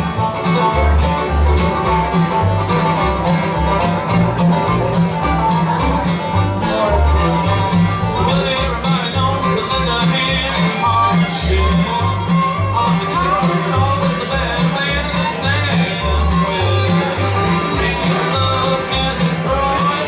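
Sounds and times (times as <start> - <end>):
bluegrass band playing: 0.0 - 20.0
upright bass plucking: 0.0 - 20.0.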